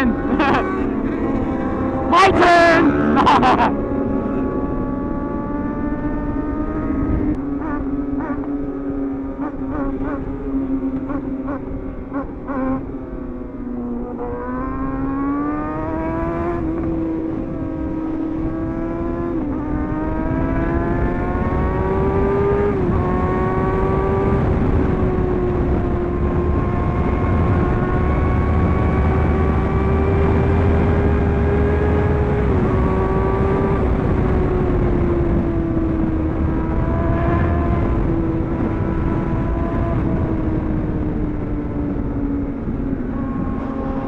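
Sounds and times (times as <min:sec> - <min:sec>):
sport bike engine accelerating: 0:00.0 - 0:44.0.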